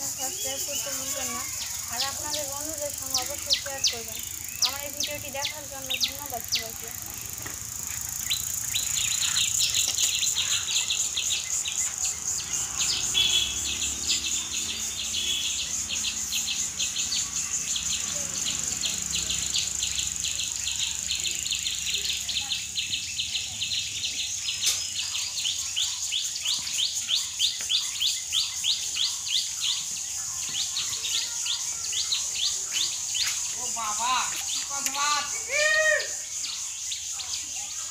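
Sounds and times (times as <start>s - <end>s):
insects shrilling drone: 0.0s - 37.9s.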